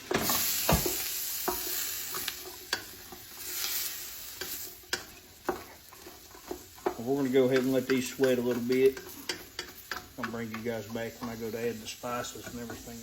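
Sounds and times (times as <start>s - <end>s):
spoon knocking and scraping pot: 0.0s - 3.5s, 4.4s - 13.0s
vegetables sizzling in butter: 0.0s - 13.0s.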